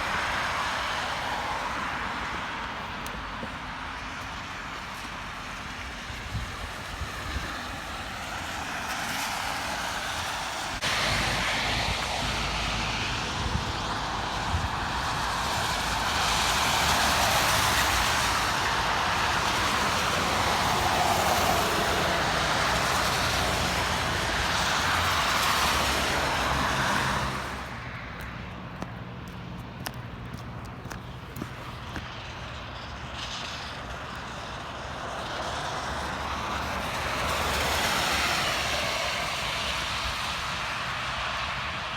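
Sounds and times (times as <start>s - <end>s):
tyre hiss on slushy road: 0.0s - 28.5s, 31.4s - 41.9s
low traffic rumble: 0.0s - 41.9s.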